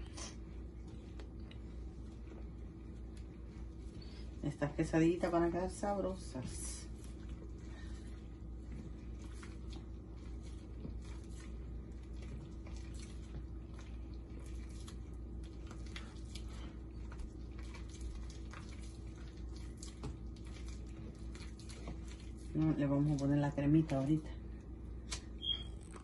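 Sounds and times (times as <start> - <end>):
hand squishing wet batter: 0.0 - 25.8
steady low hum: 0.0 - 26.0.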